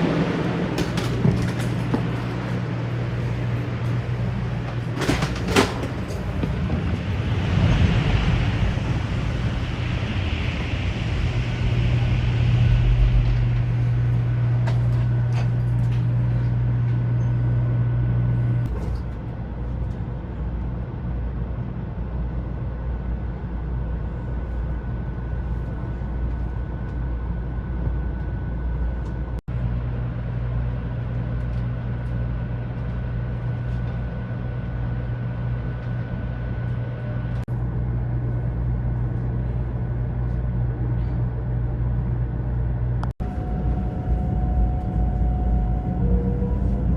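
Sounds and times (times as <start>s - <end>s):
low hum: 0.0s - 46.9s
train running rumble: 0.0s - 46.9s.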